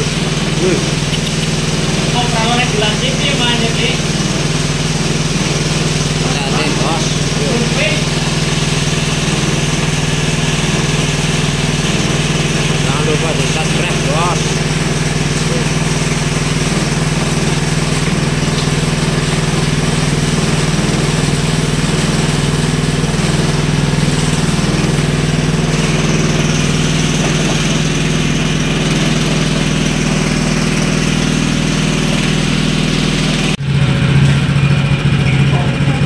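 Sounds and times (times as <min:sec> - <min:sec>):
engine-driven water pump humming: 0:00.0 - 0:36.0.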